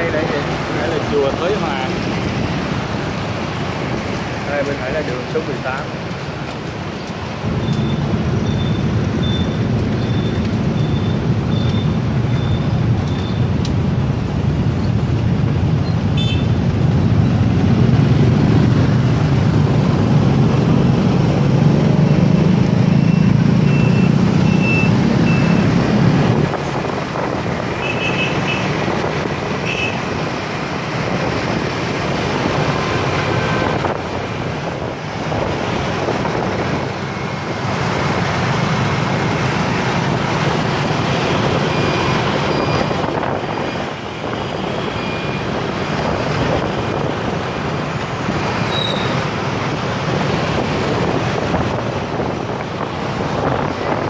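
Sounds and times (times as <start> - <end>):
scooter engines in traffic: 0.0 - 54.0.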